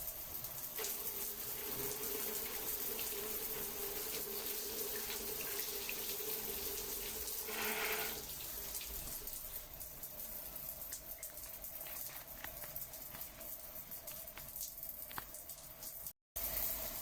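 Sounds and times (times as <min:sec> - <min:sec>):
water gushing: 0:00.0 - 0:17.0
water running: 0:00.0 - 0:17.0.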